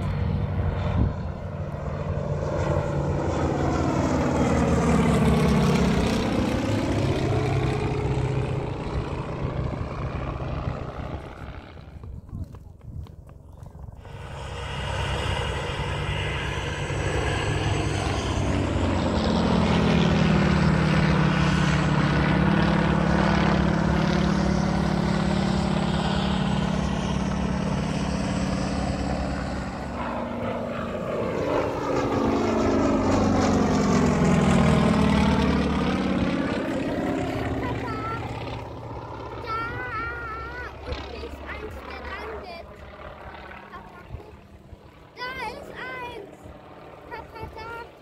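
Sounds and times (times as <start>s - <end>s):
propeller plane engine droning: 0.0s - 48.0s.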